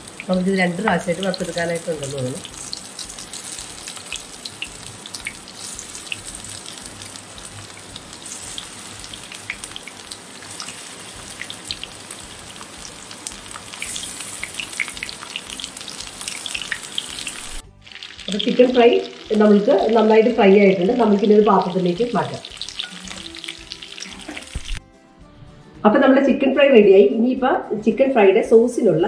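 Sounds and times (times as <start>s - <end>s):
chicken deep-frying in oil: 0.0s - 24.8s.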